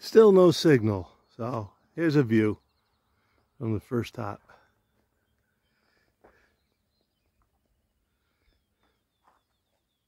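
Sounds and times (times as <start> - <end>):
distant bird chirping: 0.0 - 10.0.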